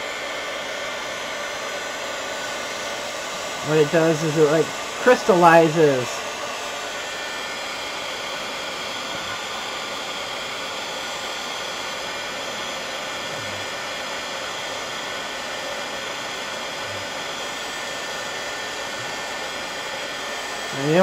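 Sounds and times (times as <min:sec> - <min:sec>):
heat gun blowing: 0:00.0 - 0:21.0.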